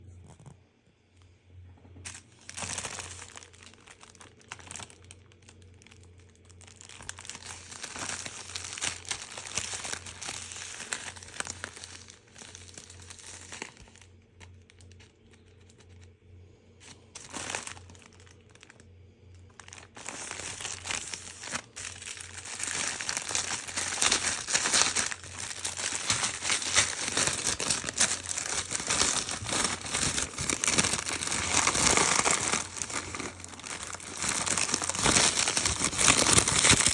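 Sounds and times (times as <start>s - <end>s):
wrapping crinkling and tearing: 2.0s - 16.1s, 16.8s - 18.8s, 19.4s - 36.9s.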